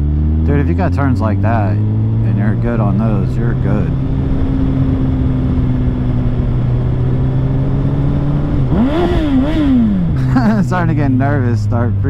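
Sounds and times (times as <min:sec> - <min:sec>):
motorcycle engine running: 0:00.0 - 0:12.0
wind noise: 0:01.0 - 0:12.0.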